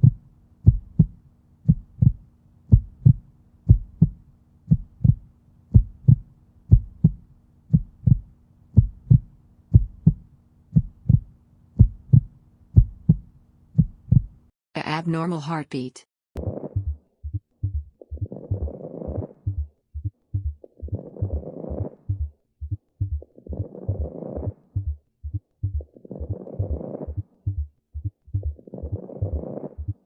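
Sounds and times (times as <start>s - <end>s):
heartbeat lub-dub: 0.0s - 14.4s, 16.4s - 30.0s.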